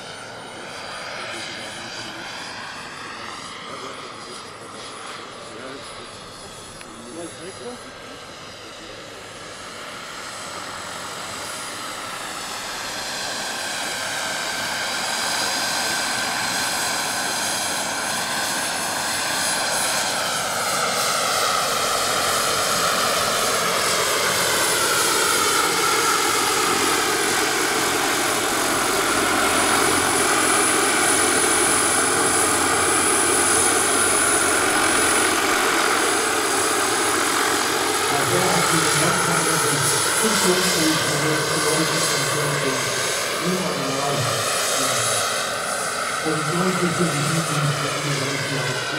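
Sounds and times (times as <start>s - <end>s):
helicopter rotor: 0.0s - 48.9s
turbine whine: 0.0s - 48.9s.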